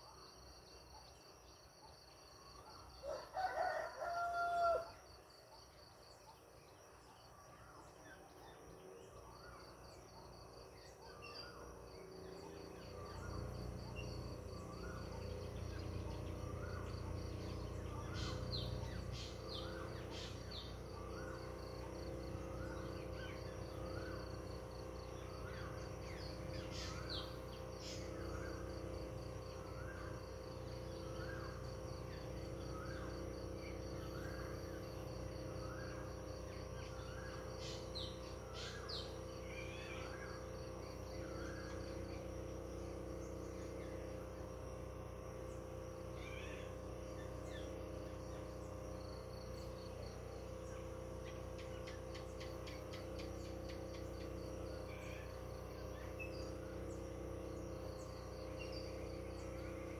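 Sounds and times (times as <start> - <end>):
insect trill: 0.0 - 59.9
sharp bird chirps: 9.1 - 59.9.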